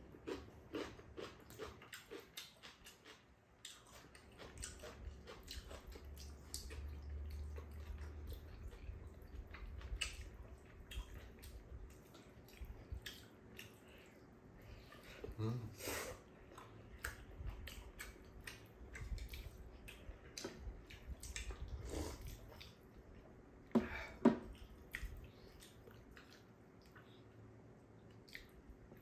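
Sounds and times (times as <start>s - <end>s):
wet chewing and lip smacks: 0.3s - 15.1s, 16.4s - 23.3s, 24.5s - 29.0s.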